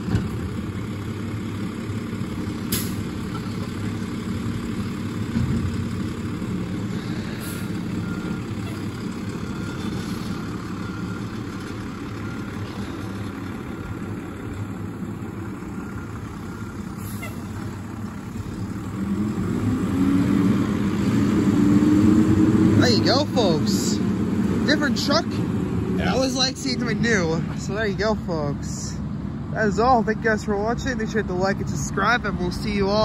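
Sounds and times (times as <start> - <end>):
garbage truck engine running: 0.0 - 27.5.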